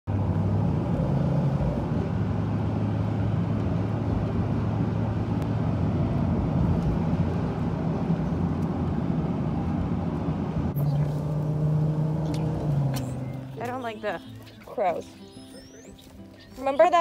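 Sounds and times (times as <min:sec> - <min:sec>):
engine and tyre rumble: 0:00.1 - 0:17.0.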